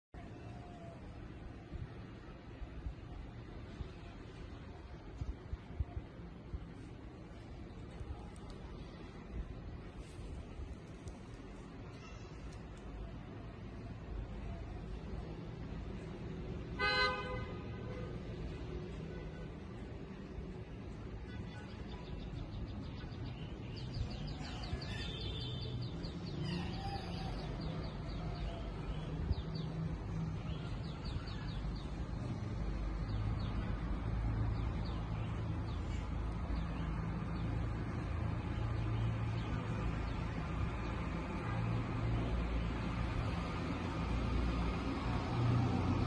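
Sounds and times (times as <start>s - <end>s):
low traffic rumble: 0.1s - 46.0s.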